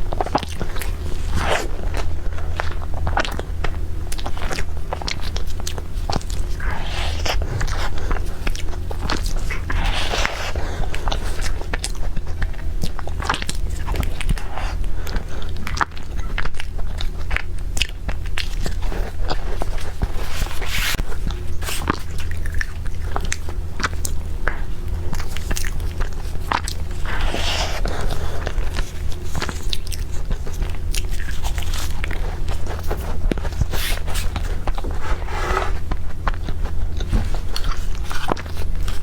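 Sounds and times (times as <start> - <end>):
person chewing: 0.0 - 39.0
steady low hum: 0.0 - 39.0.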